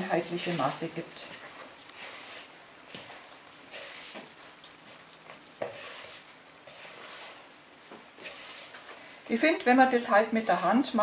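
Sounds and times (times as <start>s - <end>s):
dough kneaded in plastic bowl: 0.0s - 11.0s.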